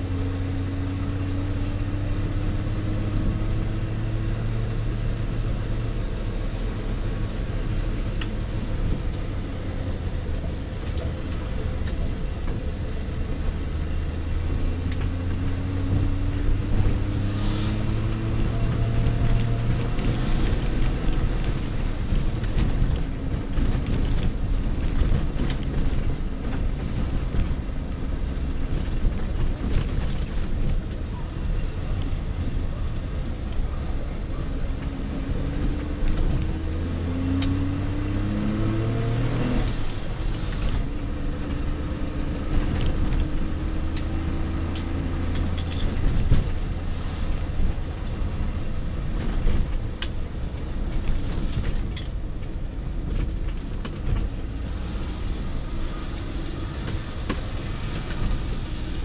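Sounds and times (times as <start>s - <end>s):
two-stroke car engine from cabin: 0.0s - 59.0s.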